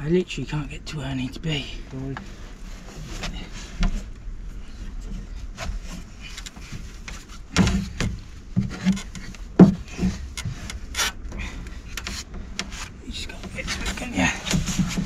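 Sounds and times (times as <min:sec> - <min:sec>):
knocks scrapes and rubbing: 0:02.2 - 0:15.0.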